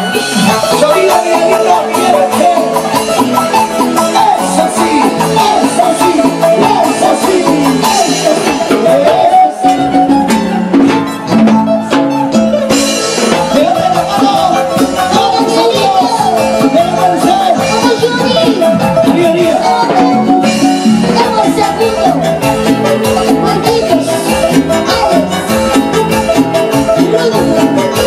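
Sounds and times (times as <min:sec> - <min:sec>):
live band music through speakers: 0:00.0 - 0:28.0
shaken percussion: 0:00.0 - 0:28.0.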